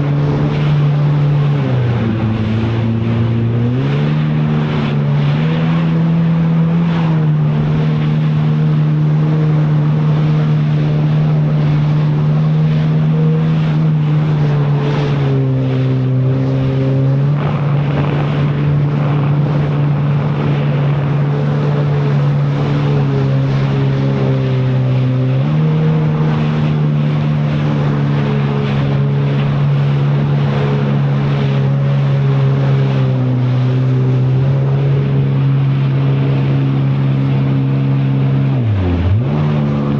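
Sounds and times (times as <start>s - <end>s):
jet ski engine running: 0.0s - 39.9s
rushing wind: 0.0s - 39.9s.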